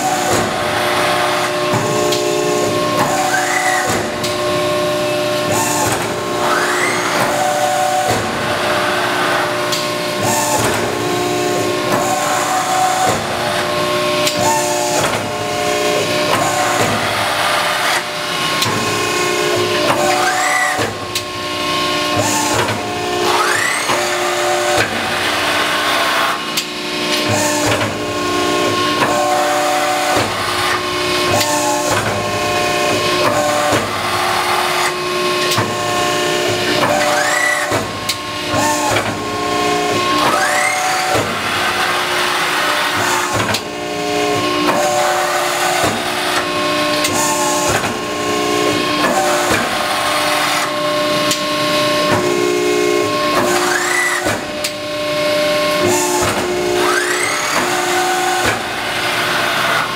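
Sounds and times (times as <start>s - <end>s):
hydraulic press machine whine: 0.0s - 59.9s
machine squeals: 1.0s - 4.3s, 5.0s - 8.2s, 8.9s - 26.4s, 27.2s - 59.9s.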